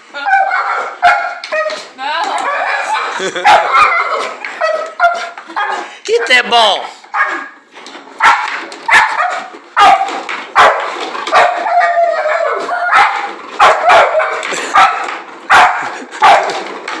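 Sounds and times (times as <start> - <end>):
dog barking: 0.2 - 1.8, 2.4 - 6.3, 7.1 - 7.6, 8.2 - 16.6.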